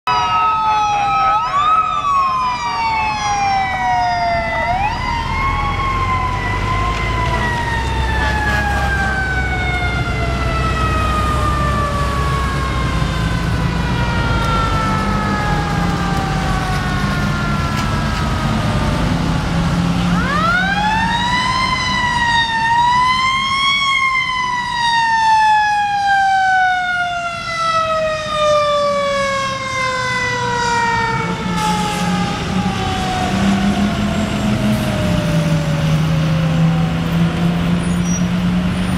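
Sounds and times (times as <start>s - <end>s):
fire engine sirens: 0.0s - 38.9s.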